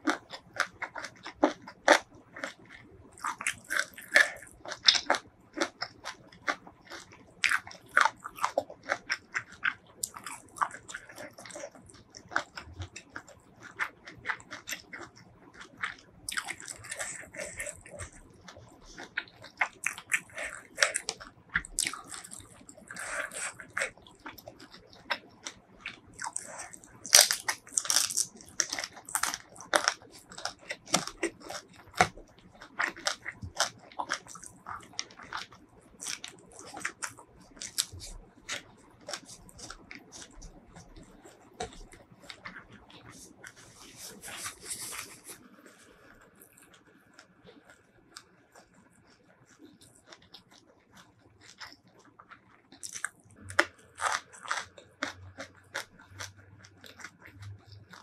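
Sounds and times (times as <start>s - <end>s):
close chewing with mouth clicks: 0.0s - 58.0s.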